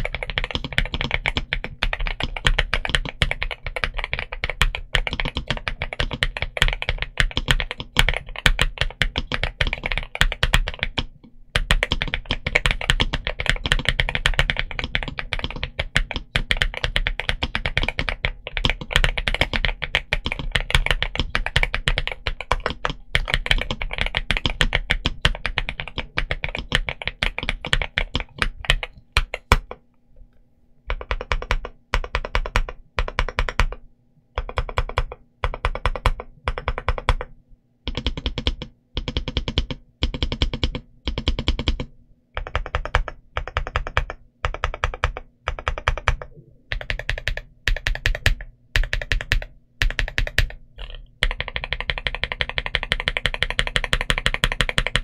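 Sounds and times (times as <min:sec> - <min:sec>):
mechanical keyboard typing: 0:00.0 - 0:29.8, 0:30.9 - 0:33.8, 0:34.4 - 0:37.3, 0:37.9 - 0:55.0.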